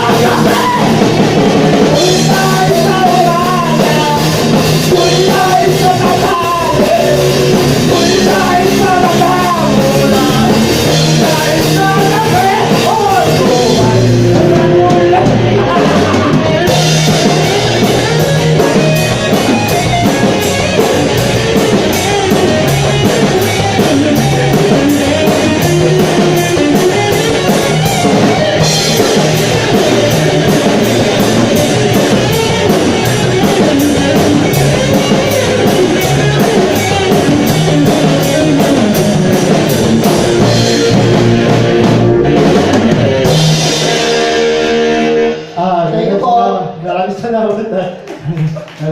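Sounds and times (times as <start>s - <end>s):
steady drum beat: 0.0s - 45.8s
live rock band playing: 0.0s - 46.8s.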